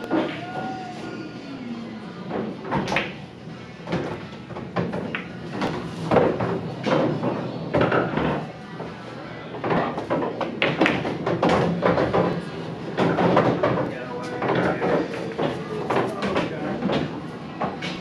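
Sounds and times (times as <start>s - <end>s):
busy room noise: 0.0s - 18.0s.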